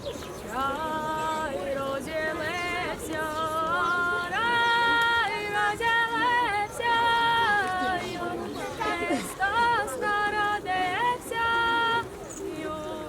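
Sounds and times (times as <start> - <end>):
child singing unaccompanied: 0.5 - 13.0.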